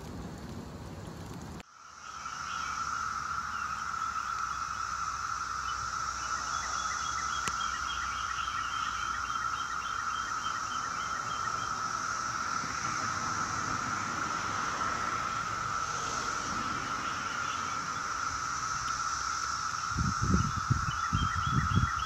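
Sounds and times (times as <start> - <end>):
cicadas droning: 0.0 - 22.0
high hiss: 0.0 - 22.0.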